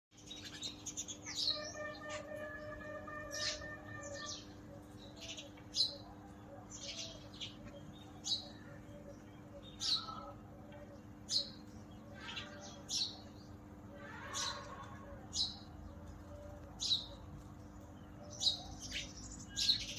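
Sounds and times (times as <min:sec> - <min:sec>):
small birds chirping: 0:00.1 - 0:19.9
faint steady hum: 0:00.2 - 0:19.9.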